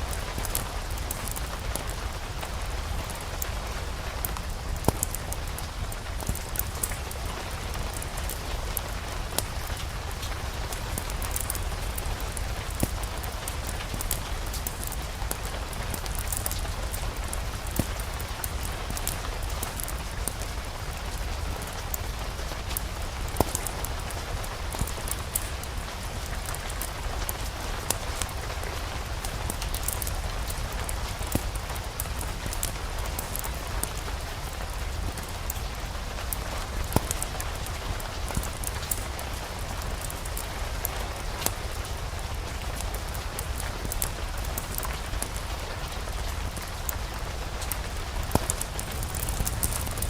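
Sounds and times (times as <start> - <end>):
fireplace fire crackling and popping: 0.0 - 50.0
steady rain: 0.0 - 50.0.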